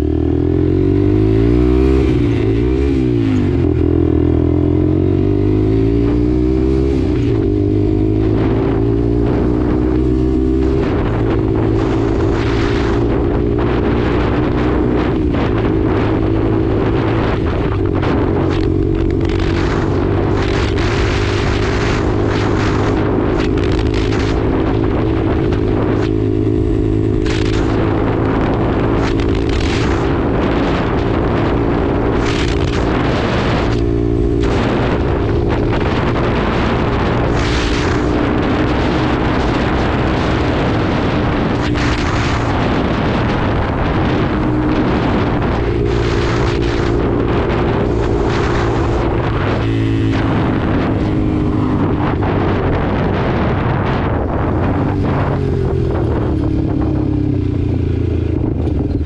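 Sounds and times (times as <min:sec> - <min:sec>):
motorcycle engine running: 0:00.0 - 0:59.0
wind buffeting microphone: 0:00.0 - 0:59.0.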